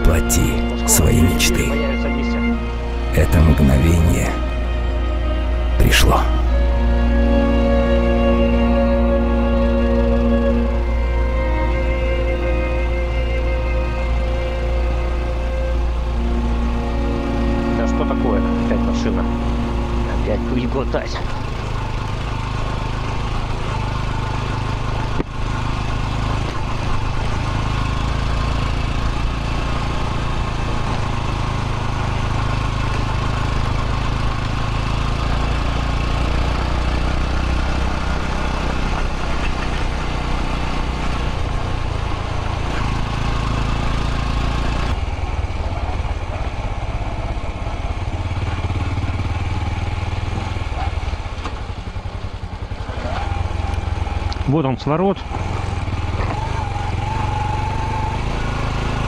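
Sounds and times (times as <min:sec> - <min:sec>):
motorcycle engine running: 0:06.5 - 0:59.0.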